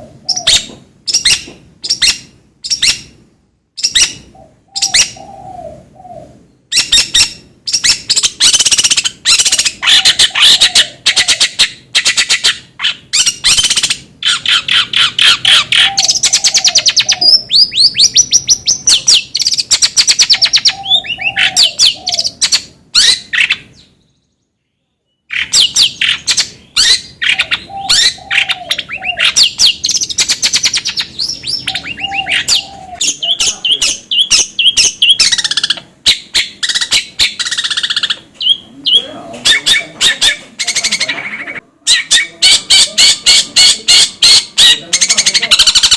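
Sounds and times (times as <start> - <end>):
shrike chattering song: 6.7 - 23.8, 25.3 - 45.9.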